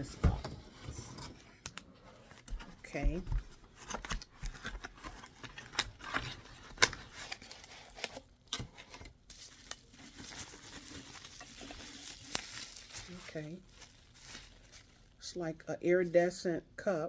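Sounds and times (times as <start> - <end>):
packaging rustling: 0.0 - 15.2.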